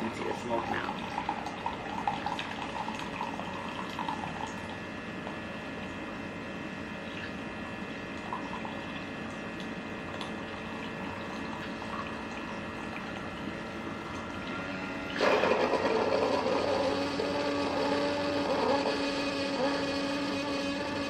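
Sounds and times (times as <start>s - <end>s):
coffee maker pump: 0.0s - 6.0s, 7.0s - 21.0s
coffee maker humming: 0.0s - 21.0s.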